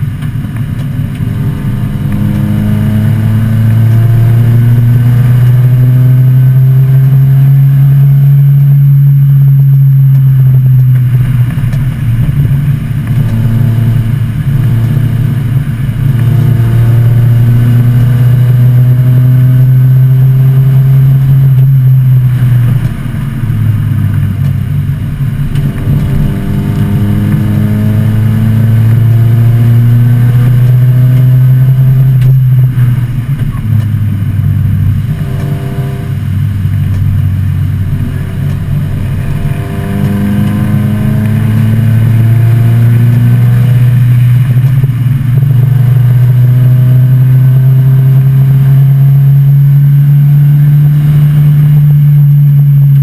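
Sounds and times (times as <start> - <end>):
car engine revving under load: 0.0 - 53.0.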